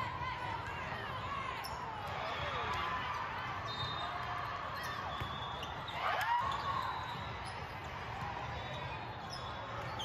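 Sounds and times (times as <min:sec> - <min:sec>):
volleyball being played: 0:00.0 - 0:10.0
sneakers squeaking on court floor: 0:01.6 - 0:10.0.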